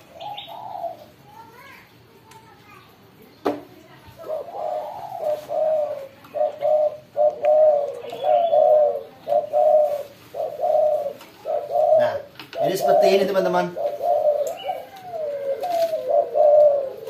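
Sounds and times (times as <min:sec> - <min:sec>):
dove cooing: 0:00.0 - 0:01.2, 0:04.1 - 0:17.0.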